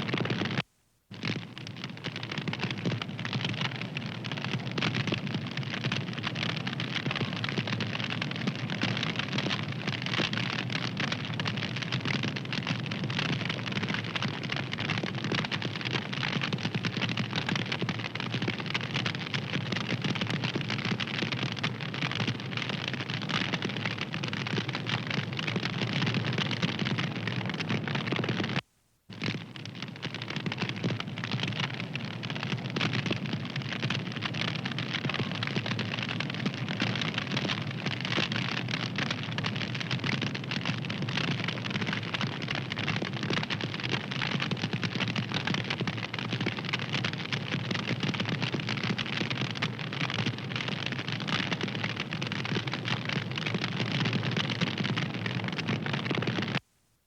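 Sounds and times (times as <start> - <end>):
wood fire crackling: 0.0 - 56.6.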